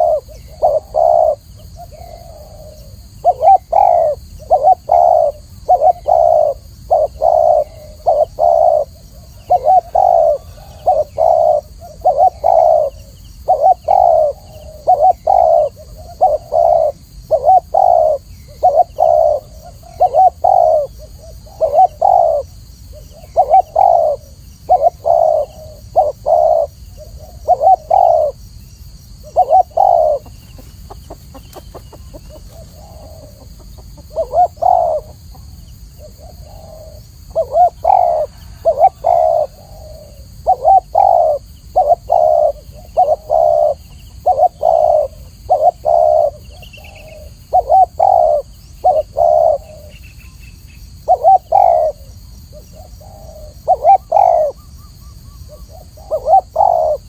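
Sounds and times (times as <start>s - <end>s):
dove cooing: 0.0s - 28.5s, 29.2s - 50.1s, 50.9s - 57.0s.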